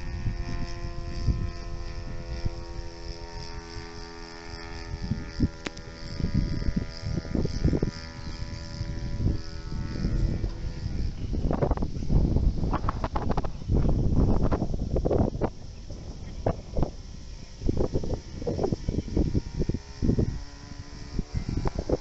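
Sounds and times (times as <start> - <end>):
model plane motor drone overhead: 0.0 - 22.0
wind rumbling on microphone: 0.0 - 22.0.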